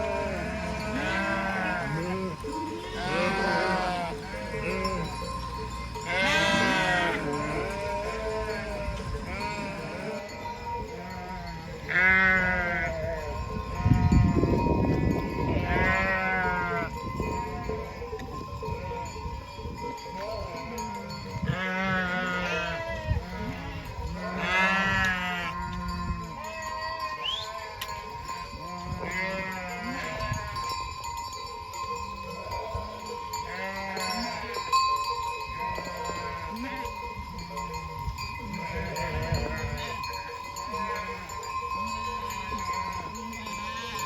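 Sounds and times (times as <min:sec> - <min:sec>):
sheep bleating: 0:00.0 - 0:19.1, 0:20.1 - 0:28.0, 0:28.6 - 0:30.7, 0:32.4 - 0:34.7, 0:35.6 - 0:37.8, 0:38.4 - 0:44.0.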